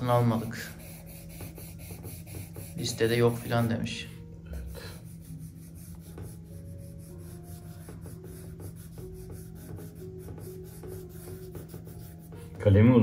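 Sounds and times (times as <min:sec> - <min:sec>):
pencil scratching on paper: 0:00.0 - 0:03.8, 0:04.9 - 0:12.6.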